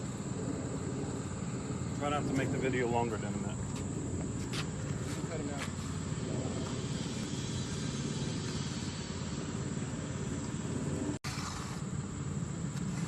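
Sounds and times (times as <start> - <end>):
mechanical rumble with flutter: 0.0 - 13.0.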